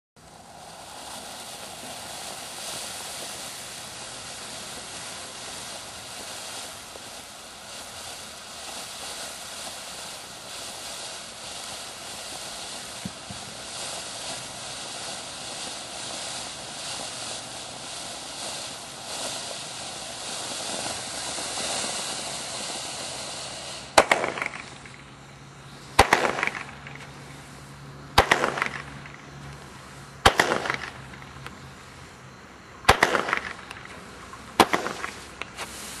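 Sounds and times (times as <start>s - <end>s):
firework bangs with crackling: 0.2s - 32.2s, 32.8s - 36.0s
firework hissing: 0.2s - 36.0s.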